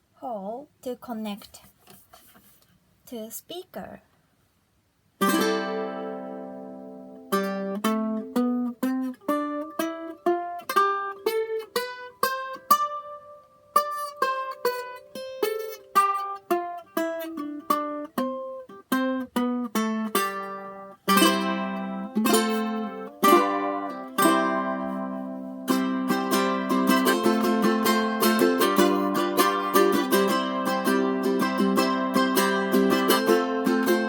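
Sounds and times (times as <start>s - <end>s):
ukulele playing: 5.2s - 34.0s.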